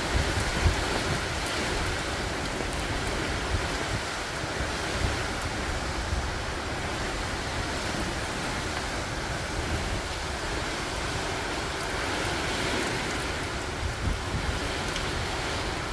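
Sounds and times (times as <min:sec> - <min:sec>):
heavy rain: 0:00.0 - 0:15.9
strong wind: 0:00.0 - 0:15.9.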